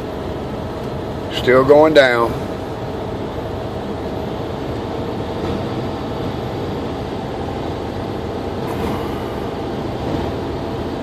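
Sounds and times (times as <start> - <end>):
heavy truck engine rumble: 0.0 - 11.0
road noise: 0.0 - 11.0.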